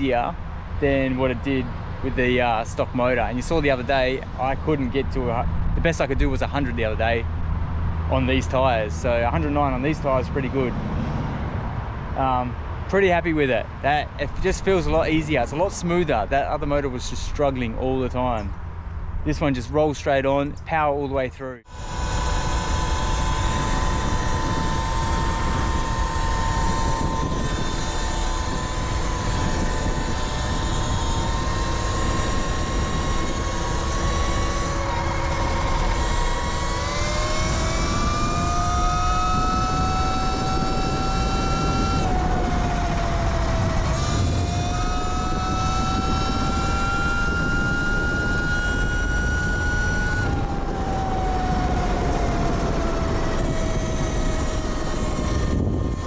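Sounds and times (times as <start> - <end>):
electric motor whine: 0.0 - 11.4, 21.6 - 56.0
wind and road noise: 0.0 - 56.0.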